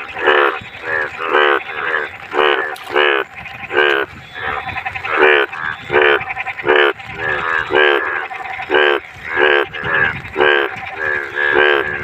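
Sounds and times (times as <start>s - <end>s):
frogs croaking in chorus: 0.0s - 12.0s.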